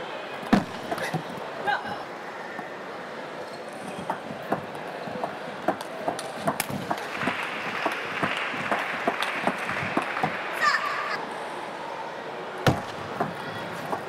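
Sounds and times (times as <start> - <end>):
crowd noise: 0.0 - 14.0.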